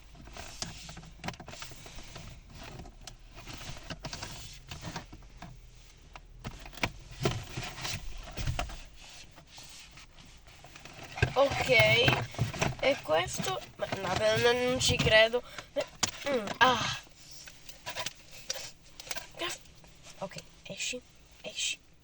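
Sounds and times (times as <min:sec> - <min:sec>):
packaging rustling and scraping: 0:00.0 - 0:20.5.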